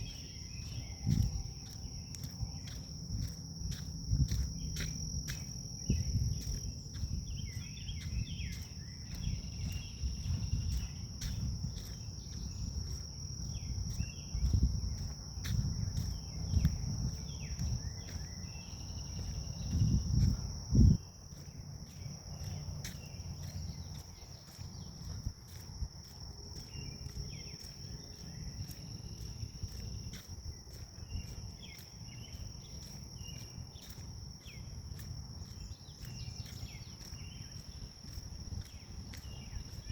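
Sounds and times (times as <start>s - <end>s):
insects trilling: 0.0s - 39.9s
wind rumble on microphone: 0.0s - 39.9s.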